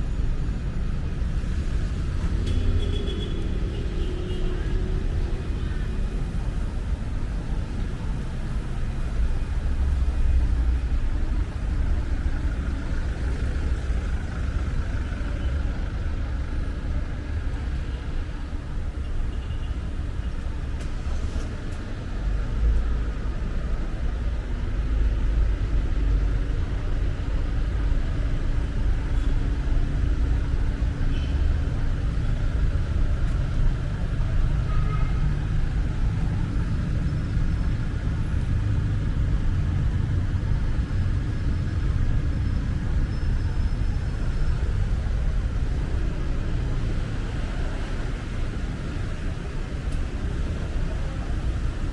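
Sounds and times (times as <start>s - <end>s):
traffic rumbling by: 0.0s - 51.9s.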